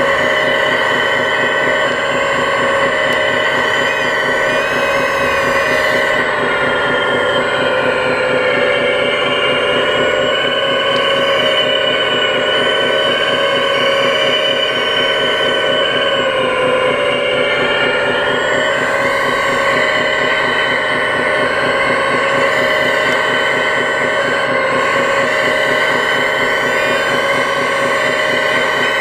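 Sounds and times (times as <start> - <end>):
hydraulic pump whining: 0.0 - 29.0.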